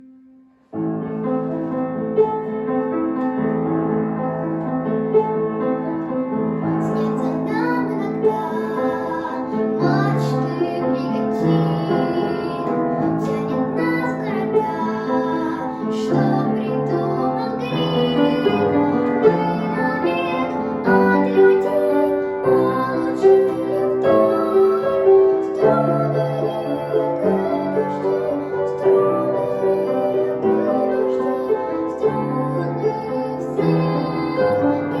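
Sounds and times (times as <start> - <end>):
piano accompaniment: 0.0 - 35.0
girl singing: 6.6 - 35.0.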